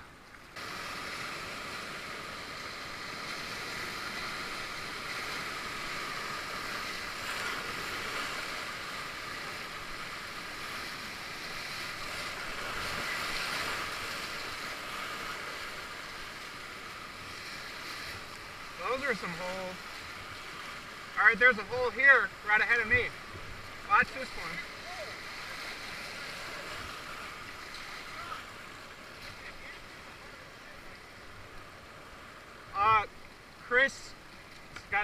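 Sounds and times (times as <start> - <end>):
river rapids rushing: 0.6 - 35.0.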